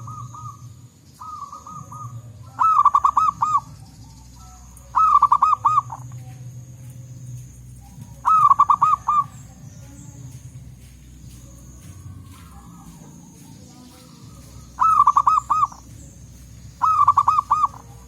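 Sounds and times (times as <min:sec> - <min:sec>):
dove cooing: 0:00.0 - 0:18.0
low hum: 0:00.0 - 0:18.0.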